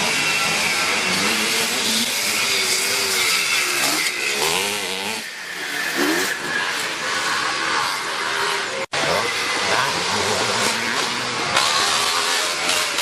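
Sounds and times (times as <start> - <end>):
motocross motorcycles racing past: 0.0 - 13.0.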